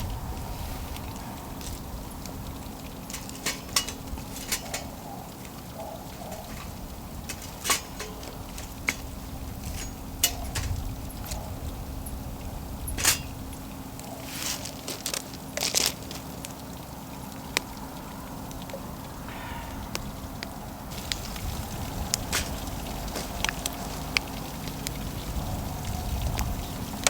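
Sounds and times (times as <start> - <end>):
campfire crackling and popping: 1.0 - 17.8, 20.9 - 27.0.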